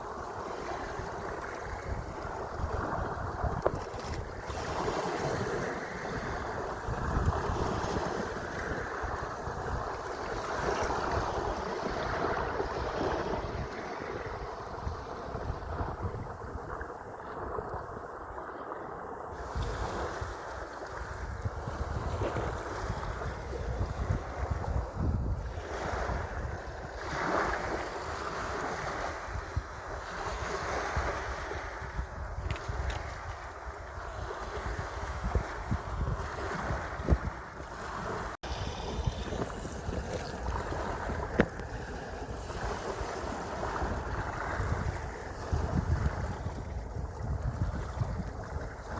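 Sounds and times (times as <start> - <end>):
sea waves washing: 0.0 - 48.9
wind buffeting microphone: 0.0 - 48.9.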